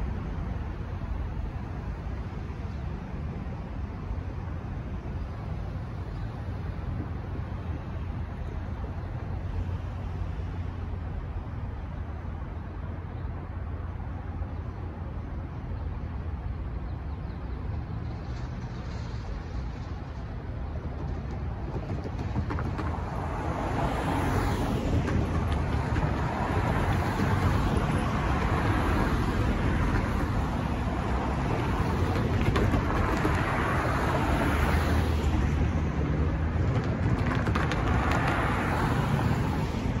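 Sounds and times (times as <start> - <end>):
cars driving past: 0.0 - 40.0.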